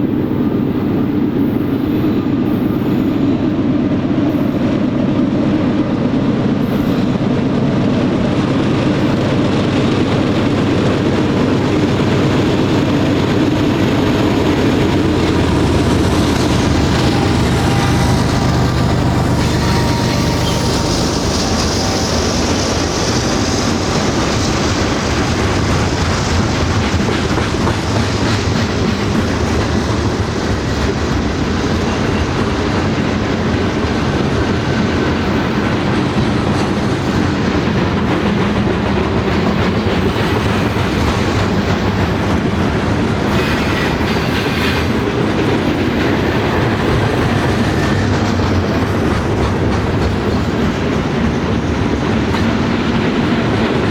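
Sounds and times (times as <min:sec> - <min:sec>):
train wheels clickety-clack: 0:00.0 - 0:53.9.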